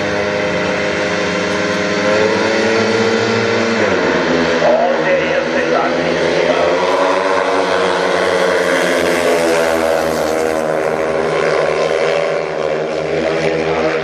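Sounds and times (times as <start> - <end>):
motorcycles racing: 0.0 - 14.0.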